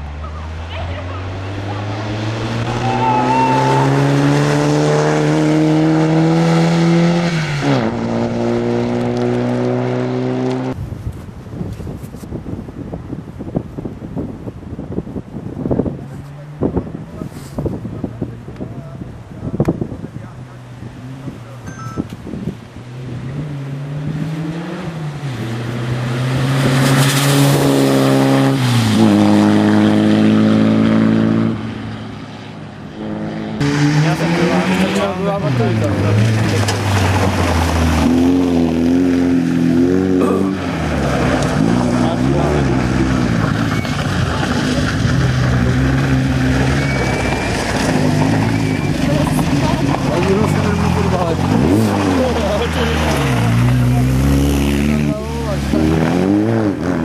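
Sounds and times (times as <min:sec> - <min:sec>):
rally car engine passing: 0:00.0 - 0:10.8, 0:19.9 - 0:57.0.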